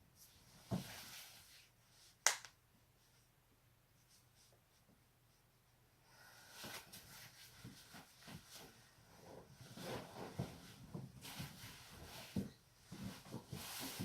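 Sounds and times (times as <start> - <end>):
faint rustling of movement: 0.1 - 2.2, 2.8 - 14.0.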